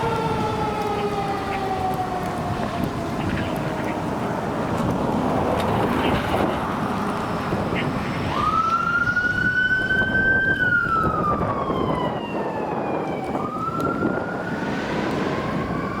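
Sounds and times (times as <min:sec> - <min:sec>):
fire engine siren wailing: 0:00.0 - 0:16.0
vehicle and road noise: 0:00.0 - 0:16.0.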